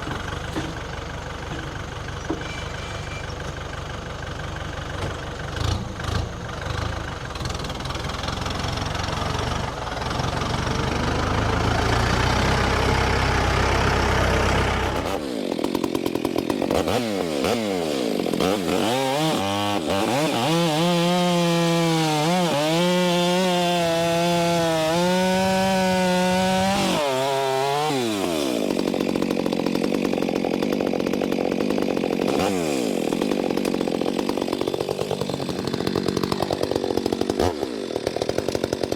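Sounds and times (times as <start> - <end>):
chainsaw revving: 5.4 - 38.9.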